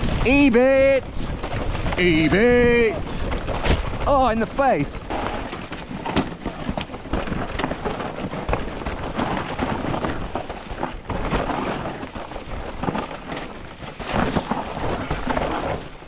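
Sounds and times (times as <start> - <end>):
bike knocks and rattles: 0.0 - 16.0
tyres on loose dirt: 0.0 - 16.0
wind rumbling on microphone: 0.0 - 16.0.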